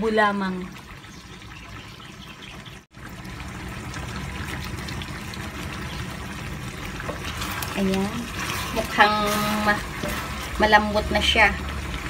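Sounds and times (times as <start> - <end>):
sauce bubbling in a frying pan: 0.0 - 12.0.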